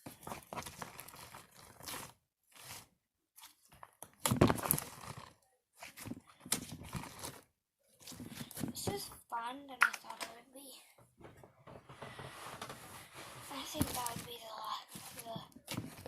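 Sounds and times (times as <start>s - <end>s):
slime squelching by hand: 0.0s - 10.2s, 13.0s - 16.0s.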